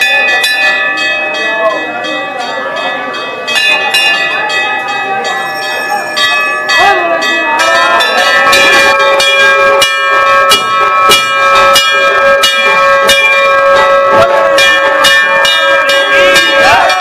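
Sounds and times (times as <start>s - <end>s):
bells ringing: 0.0s - 17.0s.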